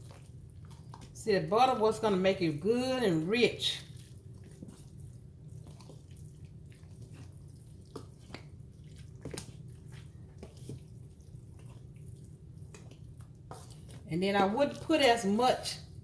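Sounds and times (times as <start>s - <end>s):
wet squishing of food mix: 0.0s - 16.0s.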